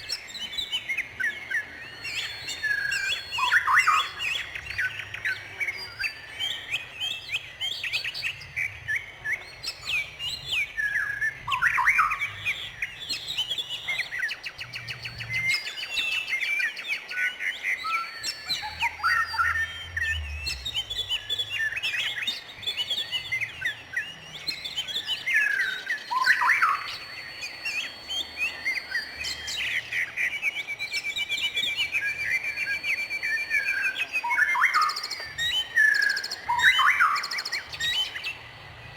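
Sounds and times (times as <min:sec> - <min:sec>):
rapid bird trill: 0:00.0 - 0:38.9
songbirds chirping: 0:00.0 - 0:38.9.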